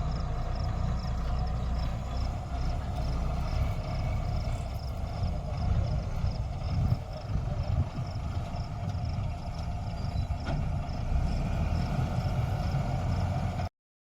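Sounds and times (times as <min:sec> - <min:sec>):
combine harvester engine rumble: 0:00.0 - 0:13.7.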